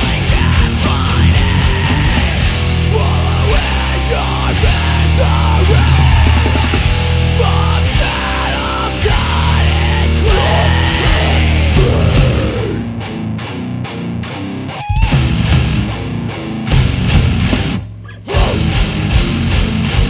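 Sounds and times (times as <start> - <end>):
heavy metal band music: 0.0 - 20.0.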